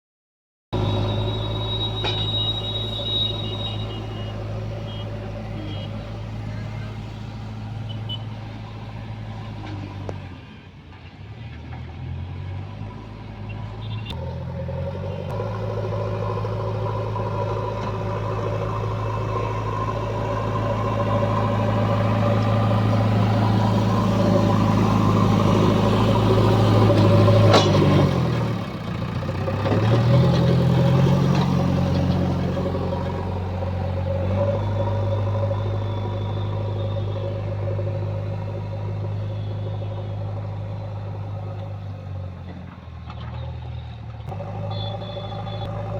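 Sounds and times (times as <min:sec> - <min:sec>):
diesel engine revving under load: 0:00.7 - 0:45.9.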